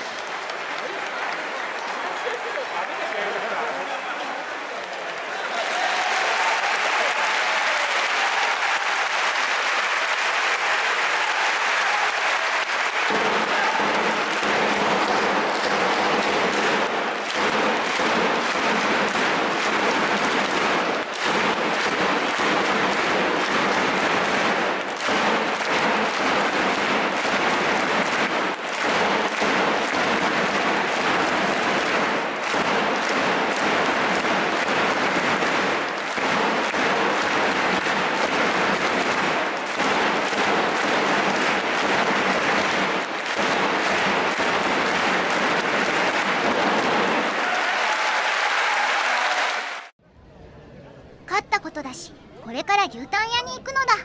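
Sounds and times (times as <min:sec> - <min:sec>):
large crowd clapping: 0:00.0 - 0:50.0, 0:53.2 - 0:54.0.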